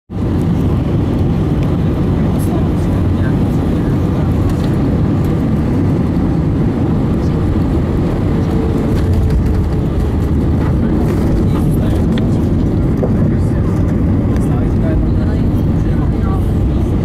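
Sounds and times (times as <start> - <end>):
airliner engine rumble in cabin: 0.1 - 17.0.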